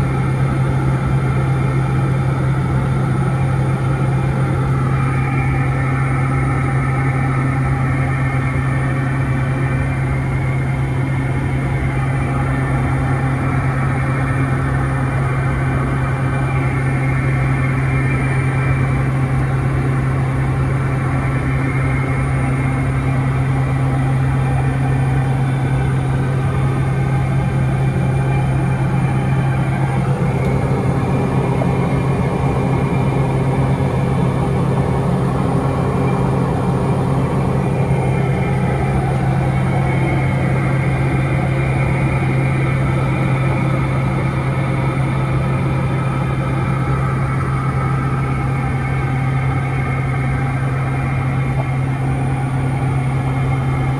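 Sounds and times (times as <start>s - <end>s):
turboprop engine droning: 0.0s - 53.9s.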